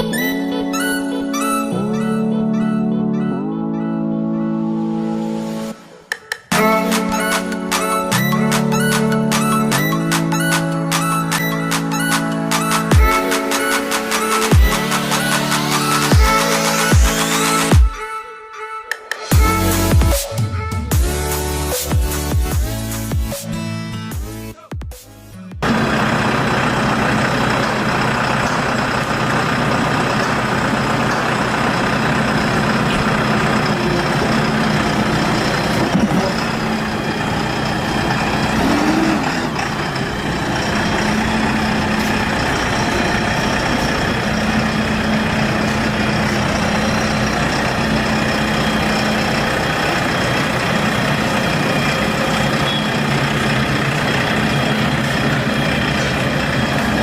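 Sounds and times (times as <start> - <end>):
diesel engine idling: 6.5 - 17.8, 19.3 - 23.3, 25.2 - 57.0.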